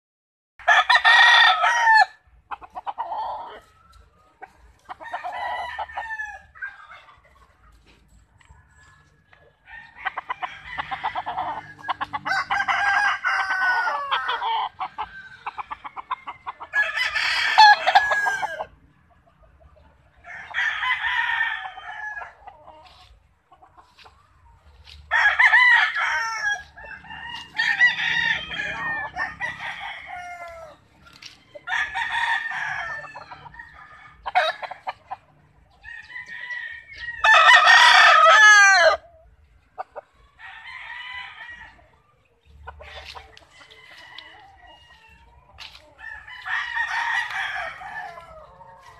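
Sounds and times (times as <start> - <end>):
roosters crowing: 0.6 - 48.9
chicken clucking: 2.2 - 48.9.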